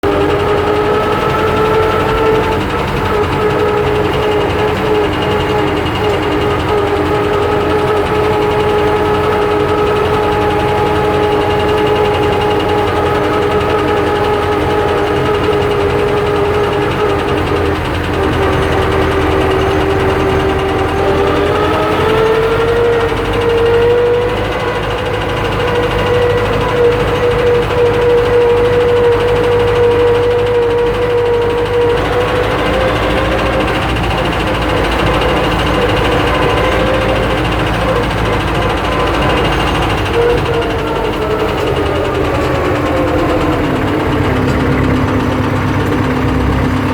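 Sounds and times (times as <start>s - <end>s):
diesel engine knocking: 0.0s - 46.9s
high whine: 0.0s - 46.9s.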